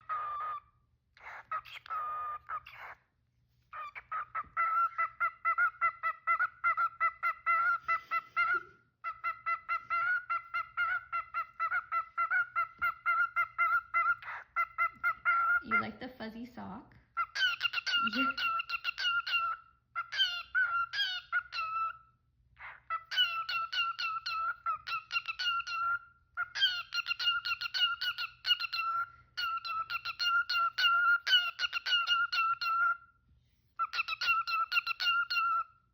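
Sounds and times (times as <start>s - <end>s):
cockatiel chirping: 0.0s - 33.1s, 33.8s - 35.8s.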